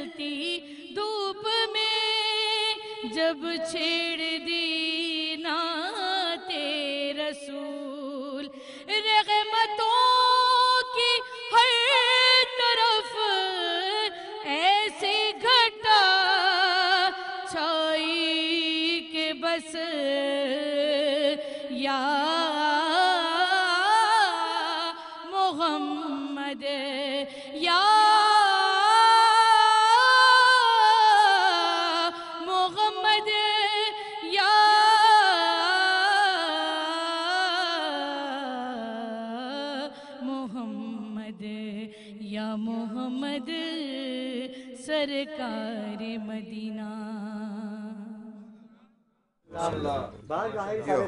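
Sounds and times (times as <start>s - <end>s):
woman singing unaccompanied: 0.0s - 48.4s.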